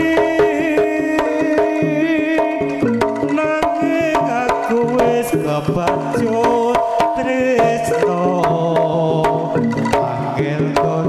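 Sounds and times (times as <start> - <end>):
hand drums beating quick rhythm: 0.0 - 11.0
sustained melodic instrument tones: 0.0 - 11.0
wavering high melody: 0.0 - 11.0.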